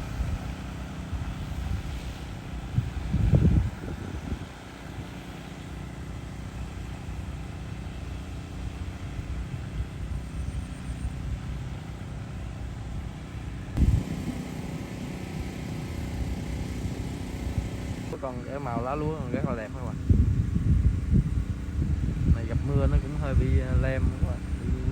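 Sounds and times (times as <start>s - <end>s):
drone rotors humming: 0.0s - 20.2s
wind rumble on microphone: 0.0s - 24.9s.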